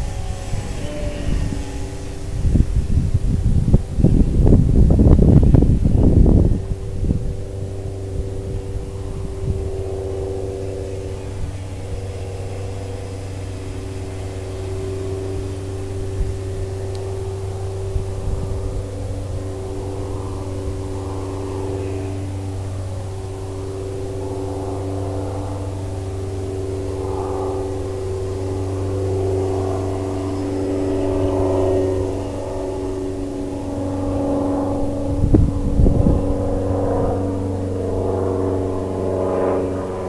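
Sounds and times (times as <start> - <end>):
simulated engine drone: 0.0 - 40.0.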